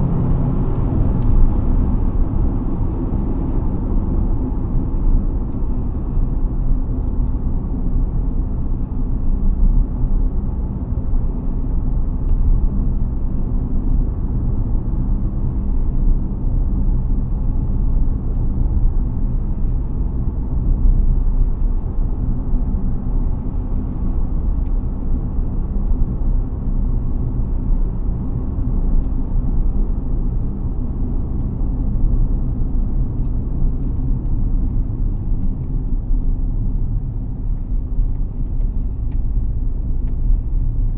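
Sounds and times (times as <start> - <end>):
road and drivetrain rumble: 0.0 - 40.9.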